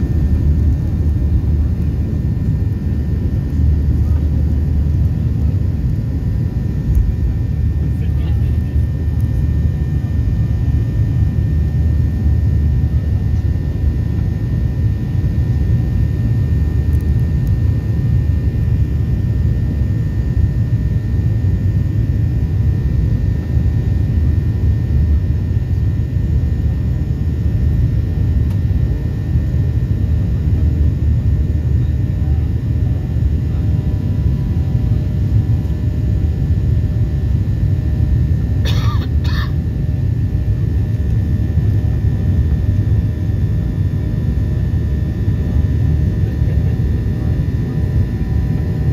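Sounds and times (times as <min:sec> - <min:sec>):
jet engine rumble in cabin: 0:00.0 - 0:48.9.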